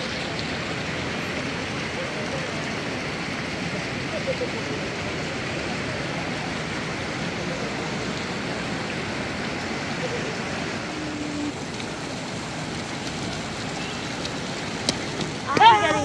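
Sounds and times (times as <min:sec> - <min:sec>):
outdoor city hiss: 0:00.0 - 0:16.0.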